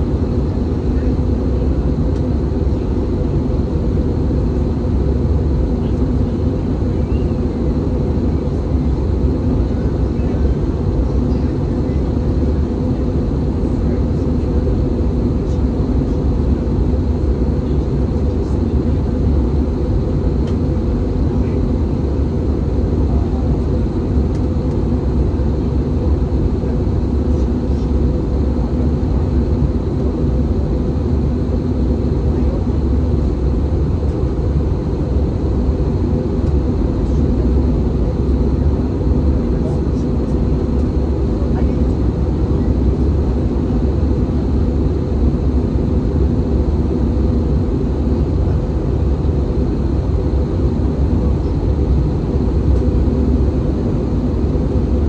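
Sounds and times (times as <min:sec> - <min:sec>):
airflow over aircraft fuselage: 0:00.0 - 0:55.0
jet engines droning: 0:00.0 - 0:55.0.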